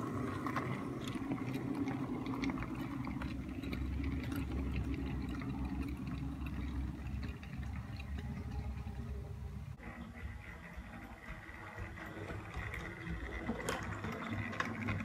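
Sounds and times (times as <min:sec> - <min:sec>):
model train motor rumble: 0:00.0 - 0:15.0
wheels clicking over rail joints: 0:00.0 - 0:15.0.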